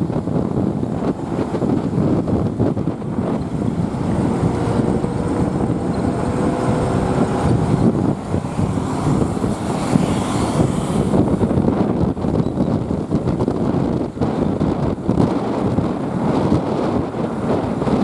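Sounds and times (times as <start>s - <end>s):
motorbike engine running: 0.0s - 18.0s
wind buffeting microphone: 0.0s - 18.0s.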